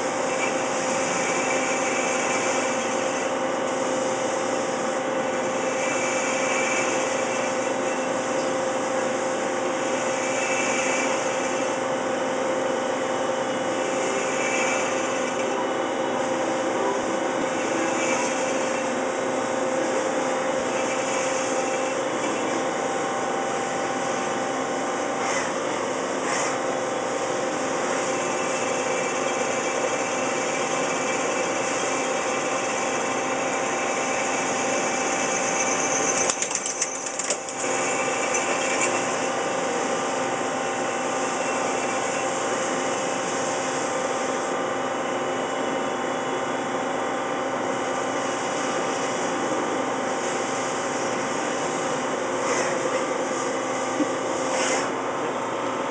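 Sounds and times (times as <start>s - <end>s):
lathe machine whine: 0.0s - 55.9s.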